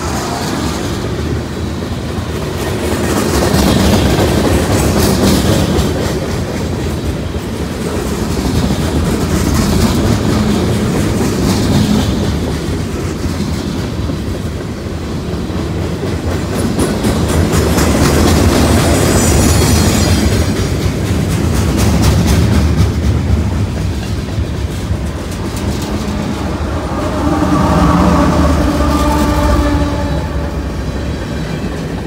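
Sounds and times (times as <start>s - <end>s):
train rumble: 0.0s - 32.0s
train wheels clicking over rail joints: 0.0s - 32.0s.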